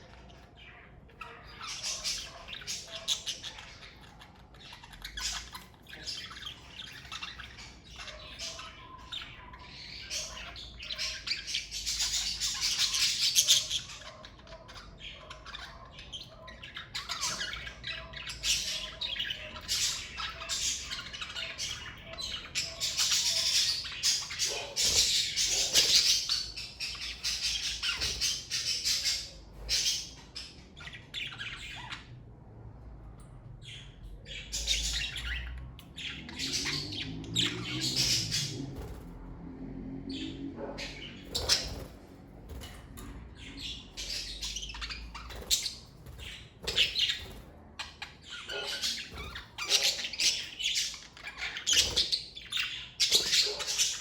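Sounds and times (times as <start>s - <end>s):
budgerigars chirping and squawking: 0.0s - 54.0s.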